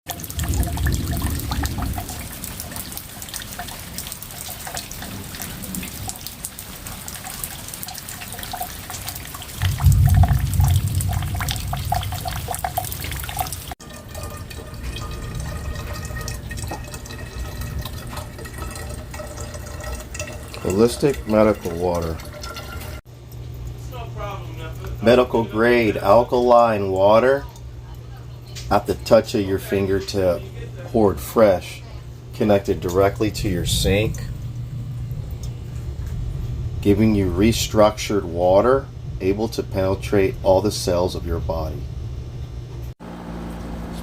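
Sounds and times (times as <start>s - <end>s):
water pouring and dripping: 0.0s - 27.8s, 32.4s - 41.7s
steady water sound: 0.0s - 28.0s, 28.7s - 44.0s.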